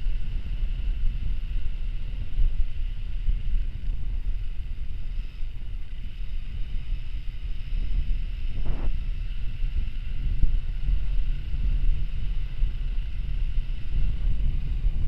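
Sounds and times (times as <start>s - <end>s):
steady high whine: 0.0s - 15.0s
wind buffeting microphone: 0.0s - 15.0s.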